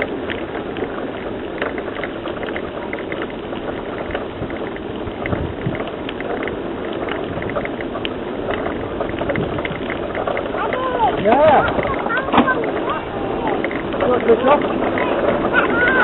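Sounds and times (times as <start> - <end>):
bike tyres rolling on dirt: 0.0 - 16.0
small crackles and ticks: 0.0 - 16.0.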